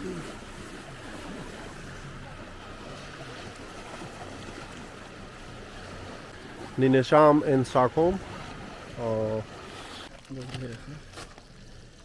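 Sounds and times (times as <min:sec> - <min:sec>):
outdoor ambience: 0:00.0 - 0:12.0.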